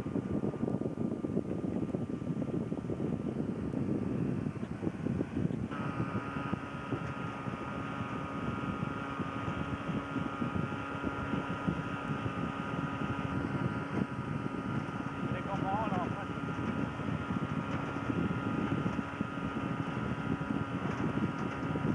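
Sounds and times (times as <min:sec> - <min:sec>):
boat motor running: 0:00.0 - 0:21.9
steady high whine: 0:00.0 - 0:21.9.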